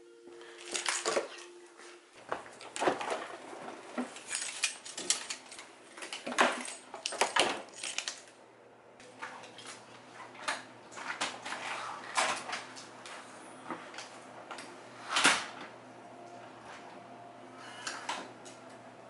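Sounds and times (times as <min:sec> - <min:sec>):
items clinking in refrigerator: 0:00.4 - 0:08.4, 0:09.0 - 0:18.9.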